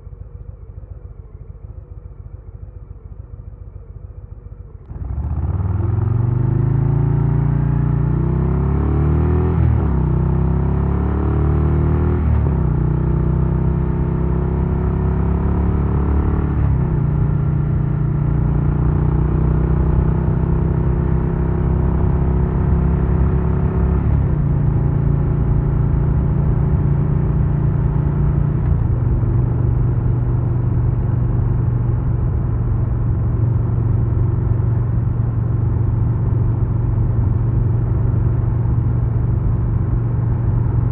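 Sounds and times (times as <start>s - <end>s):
motorcycle accelerating through gears: 4.8s - 40.9s.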